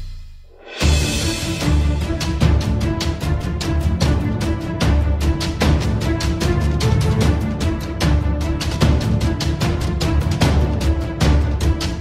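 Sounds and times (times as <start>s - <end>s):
theme music with quick beat: 0.0s - 12.0s.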